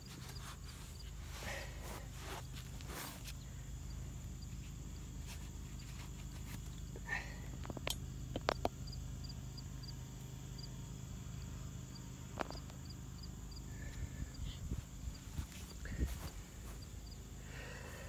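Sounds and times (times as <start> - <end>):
high insect chirps: 0.0 - 18.0
steady low hum: 0.0 - 18.0.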